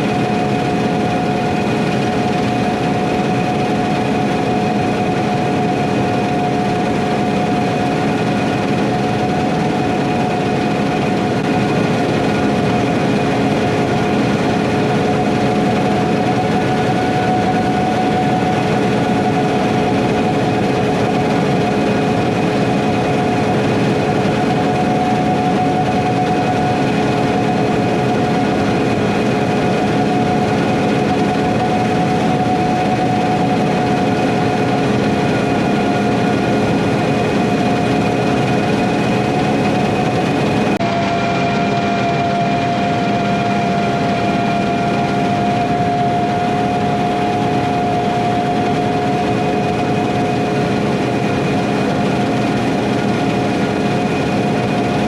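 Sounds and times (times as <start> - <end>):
steady mechanical whine: 0.0 - 55.0.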